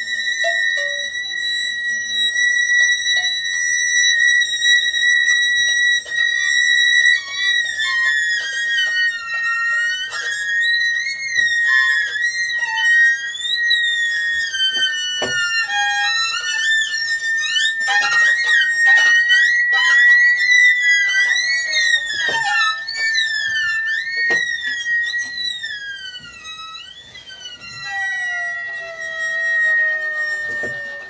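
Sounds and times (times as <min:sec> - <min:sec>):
high held tone: 0:00.0 - 0:31.0
sliding string glissandi: 0:00.0 - 0:31.0.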